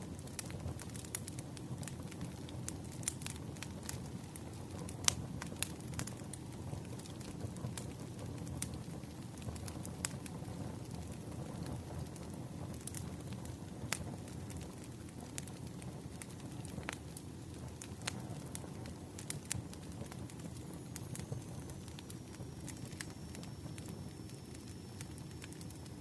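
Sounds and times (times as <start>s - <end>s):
low rush of burning logs: 0.0s - 26.0s
wood fire crackling: 0.0s - 26.0s.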